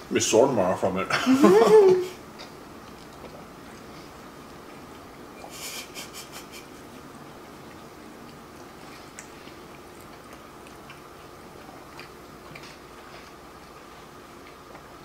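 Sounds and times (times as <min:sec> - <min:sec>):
faint steady hum: 0:00.0 - 0:15.0
people chewing food: 0:01.2 - 0:15.0.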